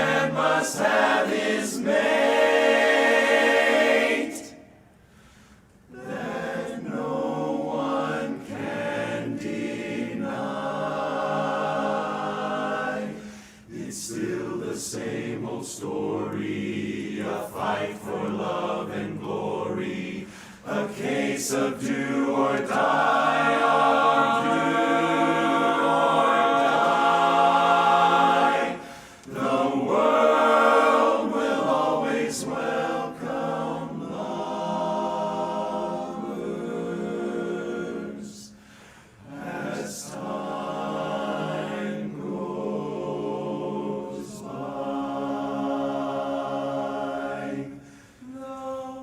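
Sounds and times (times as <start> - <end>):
men's chorus singing in harmony: 0.0 - 4.6, 5.9 - 38.6, 39.2 - 49.0.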